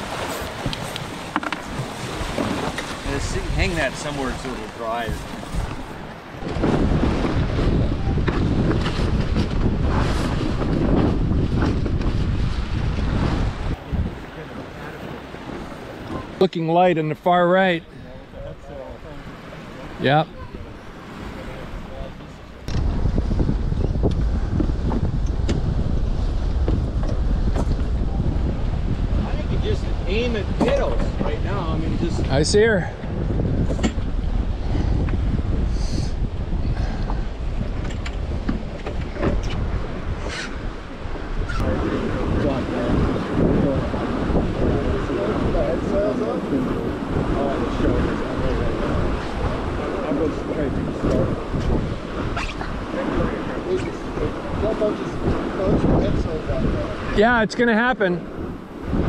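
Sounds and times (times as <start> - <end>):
wind buffeting microphone: 0.0 - 16.4, 17.8 - 59.0
water slapping along hull: 0.0 - 59.0.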